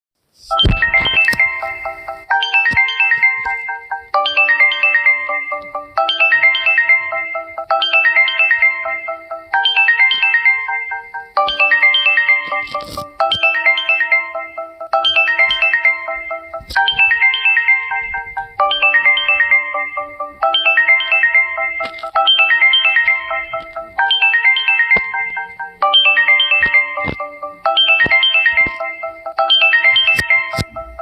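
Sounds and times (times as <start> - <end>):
electronic phone ringtone: 0.5 - 31.0.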